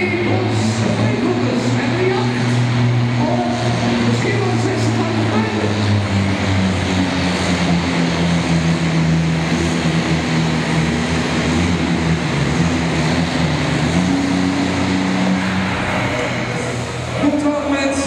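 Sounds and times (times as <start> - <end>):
diesel engine droning at high revs: 0.0 - 18.0.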